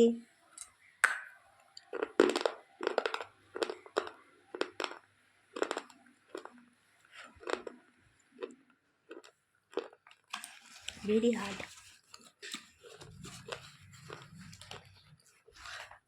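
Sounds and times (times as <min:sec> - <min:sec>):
pencils being chewed: 0:01.6 - 0:16.0.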